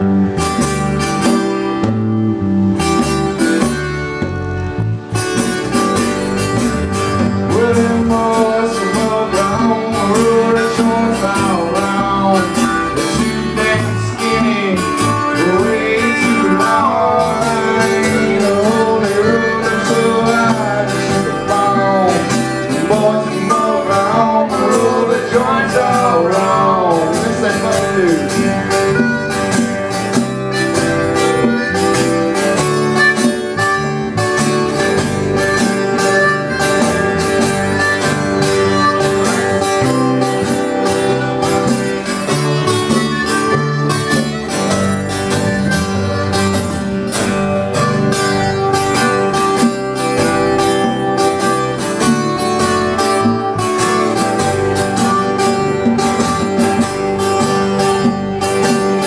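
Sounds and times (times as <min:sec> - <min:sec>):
harmonica playing: 0:00.0 - 0:59.0
strummed guitar: 0:00.0 - 0:59.0.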